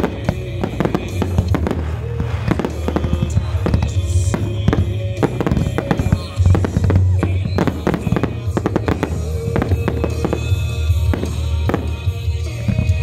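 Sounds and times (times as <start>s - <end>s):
fireworks bursts and crackle: 0.0s - 13.0s.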